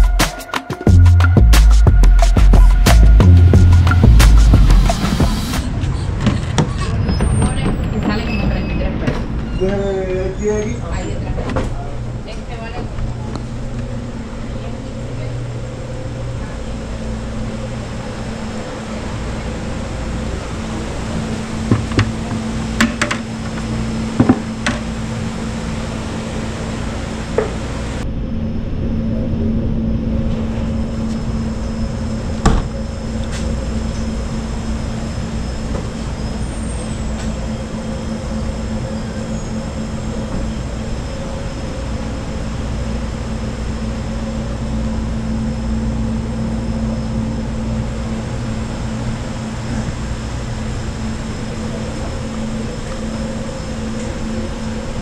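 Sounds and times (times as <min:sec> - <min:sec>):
refrigeration machinery humming: 0:00.0 - 0:55.0.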